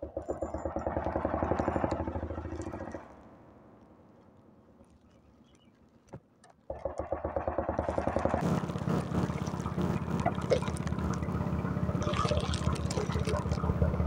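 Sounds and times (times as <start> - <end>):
small engine puttering: 0.0 - 14.0.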